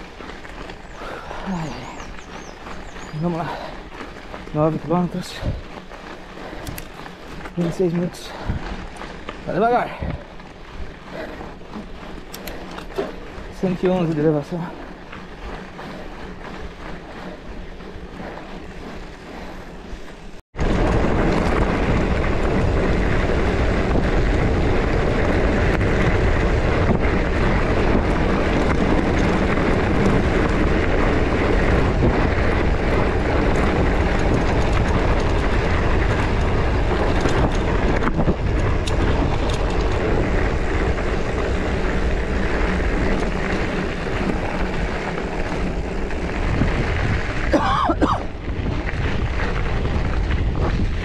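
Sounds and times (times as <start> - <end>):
wind on microphone: 0.0 - 14.0, 20.6 - 51.0
mountain bike rolling: 0.0 - 51.0.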